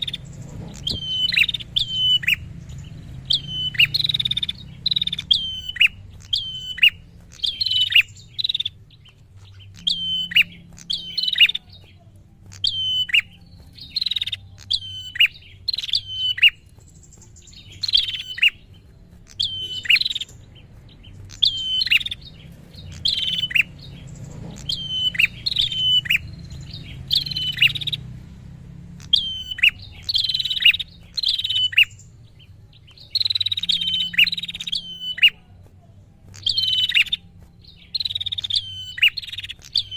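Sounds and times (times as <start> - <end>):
bird chirping high sharp notes: 0.0 - 39.9.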